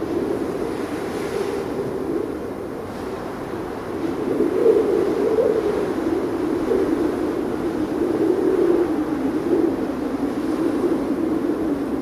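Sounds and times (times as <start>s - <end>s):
wind howling: 0.0s - 12.0s.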